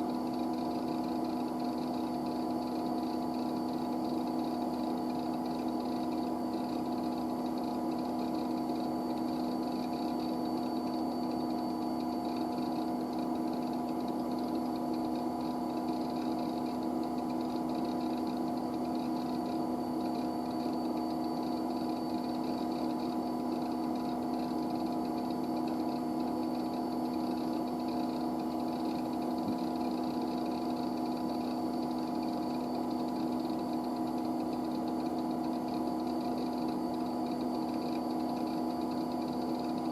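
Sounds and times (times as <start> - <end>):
computer machine humming: 0.0 - 39.9
faint high whine: 0.0 - 39.9.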